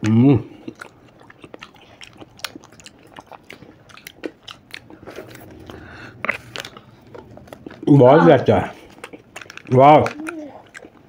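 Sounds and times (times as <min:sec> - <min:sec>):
people eating ice cream: 0:00.0 - 0:11.0.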